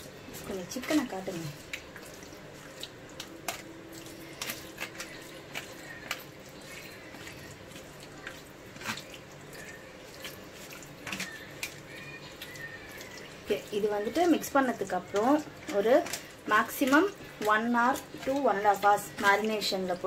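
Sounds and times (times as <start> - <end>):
wet squelches of hand mixing: 0.0 - 20.0.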